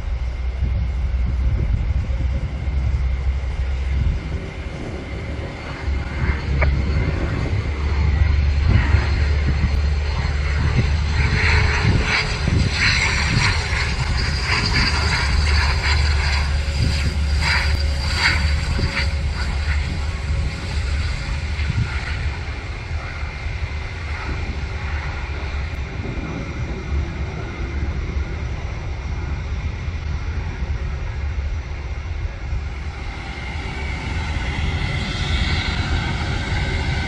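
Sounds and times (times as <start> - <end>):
airliner engines whining: 0.0 - 37.0
low rumble: 0.0 - 37.0.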